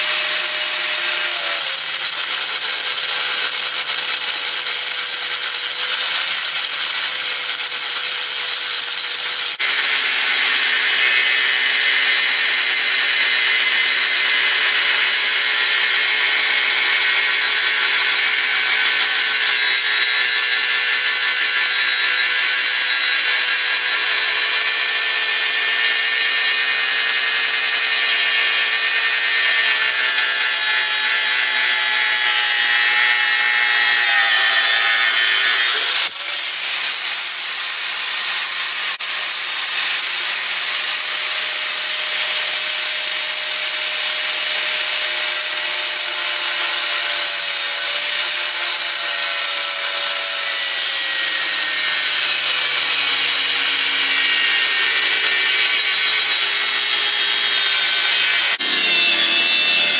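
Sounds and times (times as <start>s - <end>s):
power tool cutting steel: 0.0s - 59.9s.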